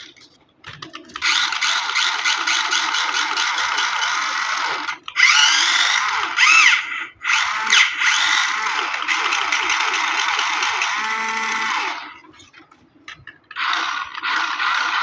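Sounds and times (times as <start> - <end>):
toy car motor whirring: 1.2 - 12.2, 13.5 - 15.0.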